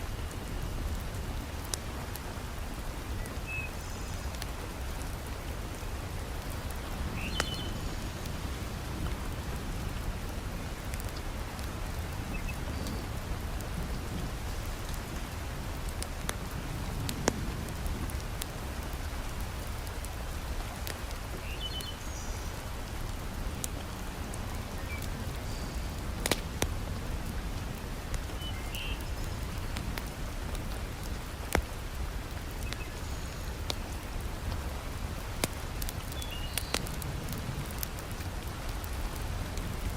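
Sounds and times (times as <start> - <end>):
heavy rain falling: 0.0 - 39.9
wood fire crackling: 0.0 - 39.9.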